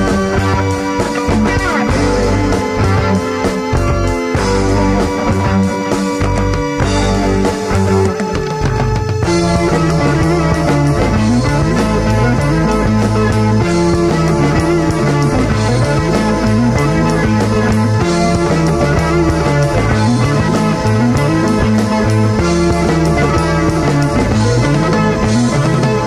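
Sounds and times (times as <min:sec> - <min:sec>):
bass guitar: 0:00.0 - 0:26.0
drums: 0:00.0 - 0:26.0
electric guitar: 0:00.0 - 0:26.0
keyboards: 0:00.0 - 0:26.0.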